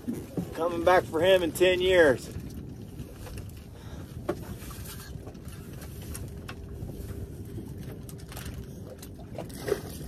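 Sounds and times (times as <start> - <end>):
wind and water rumble: 0.0 - 10.0.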